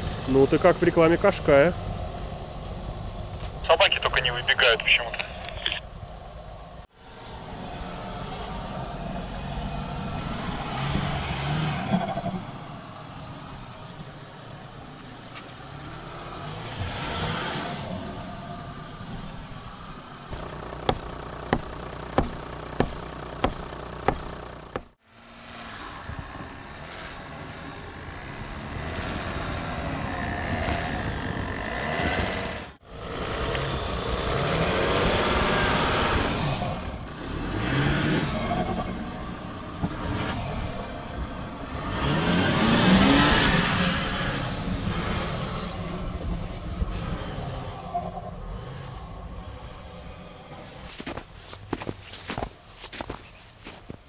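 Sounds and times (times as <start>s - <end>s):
diesel engine revving: 6.9s - 52.4s.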